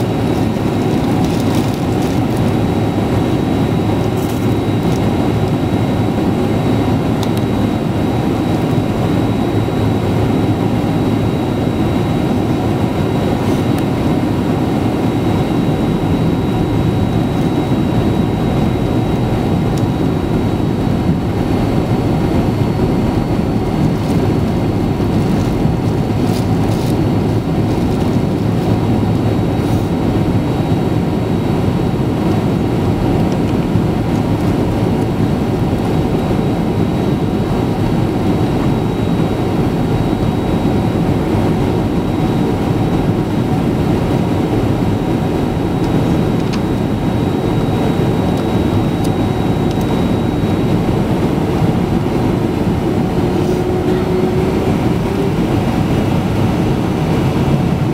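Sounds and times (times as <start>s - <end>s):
airliner cabin engine rush: 0.0s - 57.9s
faint high whining tones: 0.0s - 57.9s.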